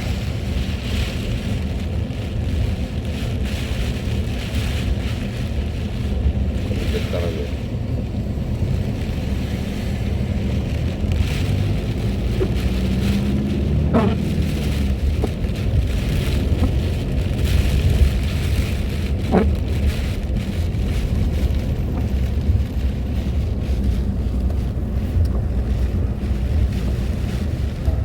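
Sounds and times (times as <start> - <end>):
car engine and tyres rumbling: 0.0 - 28.0
rain and road spray hiss: 0.0 - 28.0.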